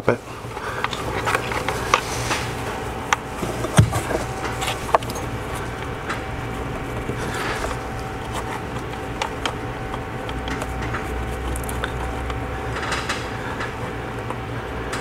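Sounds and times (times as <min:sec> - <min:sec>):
steady low hum: 0:00.0 - 0:15.0
rubber hose clicking and rustling: 0:00.5 - 0:15.0.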